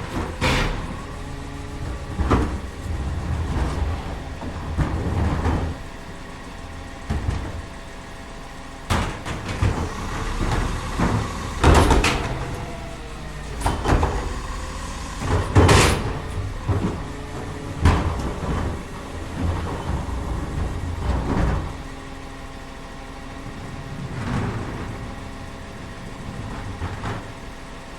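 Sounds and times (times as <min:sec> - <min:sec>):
loud bangs and clunks: 0:00.0 - 0:22.4
garbage truck engine running: 0:00.0 - 0:27.9.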